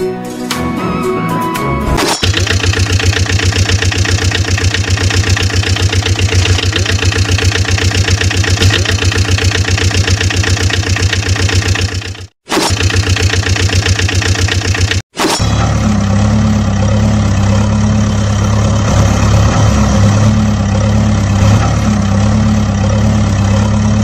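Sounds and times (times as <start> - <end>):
engine idling: 2.2 - 15.0, 15.6 - 24.0.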